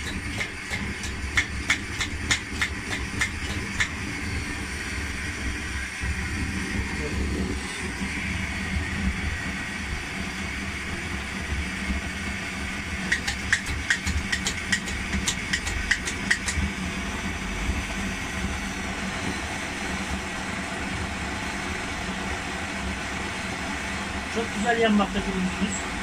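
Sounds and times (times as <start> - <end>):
blowtorch burning with low rush: 0.0 - 26.0.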